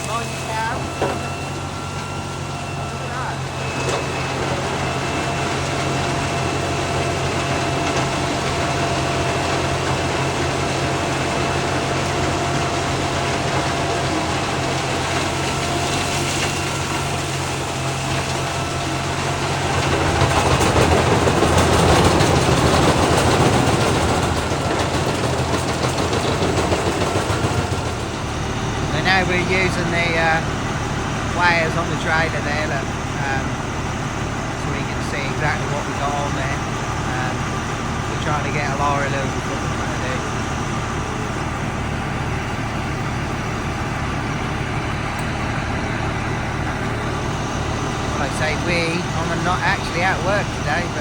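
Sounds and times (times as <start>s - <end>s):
large diesel engine running: 0.0s - 51.0s.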